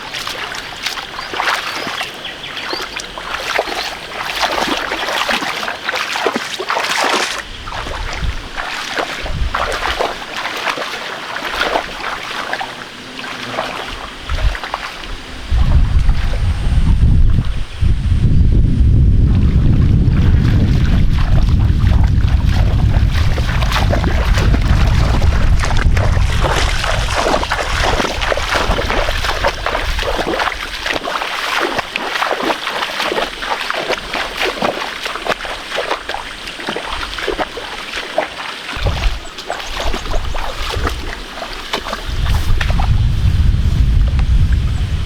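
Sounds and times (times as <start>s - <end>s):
muddy water splashing: 0.0s - 17.8s, 18.4s - 45.0s.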